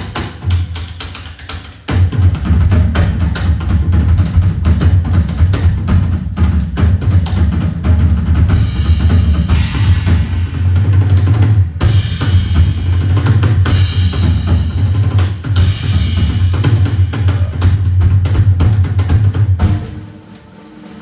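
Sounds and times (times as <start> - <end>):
rock drum solo: 0.0 - 19.8.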